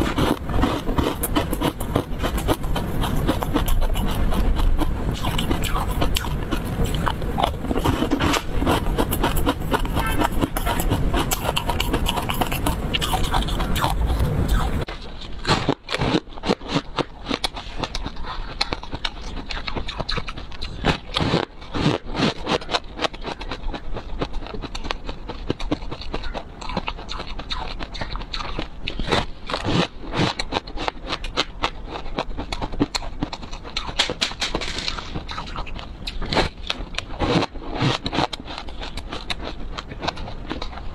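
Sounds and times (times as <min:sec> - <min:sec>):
crunching and chewing snack: 0:00.0 - 0:40.9.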